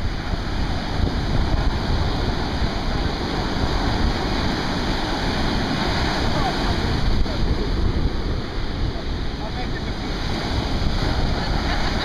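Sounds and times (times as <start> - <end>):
surf breaking on a beach: 0.0 - 12.0
wind buffeting the microphone: 0.0 - 12.0.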